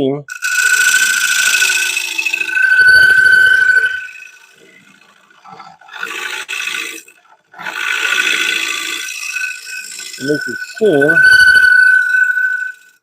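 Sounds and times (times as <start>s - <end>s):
gouge cutting spinning wood: 0.3s - 13.0s.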